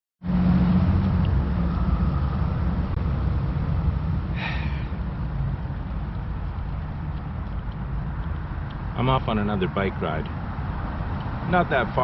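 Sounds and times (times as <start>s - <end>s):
low rumble of traffic: 0.2s - 12.0s.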